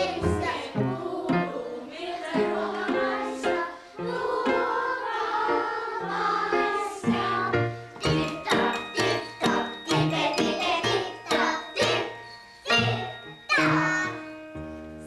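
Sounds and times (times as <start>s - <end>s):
choir singing: 0.0s - 14.1s
instrumental backing: 2.5s - 15.0s.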